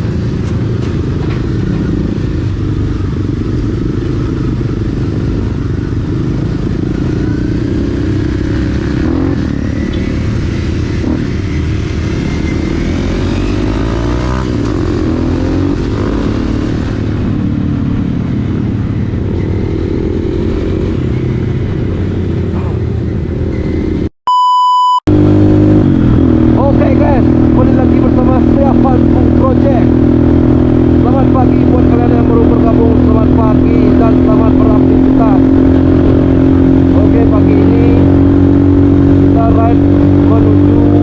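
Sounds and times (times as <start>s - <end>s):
motorcycle engine revving: 0.0s - 24.1s, 25.1s - 41.0s.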